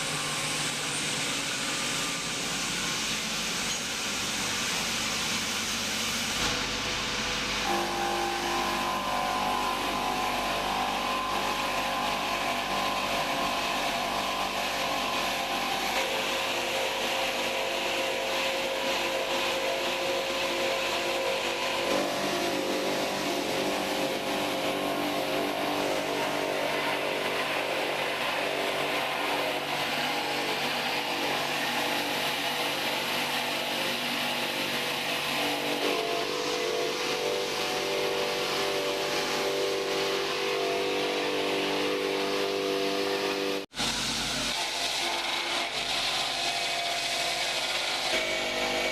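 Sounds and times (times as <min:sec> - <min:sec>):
workshop machinery humming and whining: 0:00.0 - 0:48.9.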